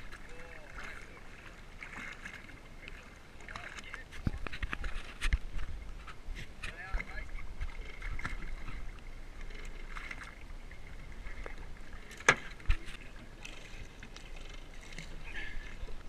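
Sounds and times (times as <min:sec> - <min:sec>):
water splashing against boat hull: 0:00.0 - 0:16.0.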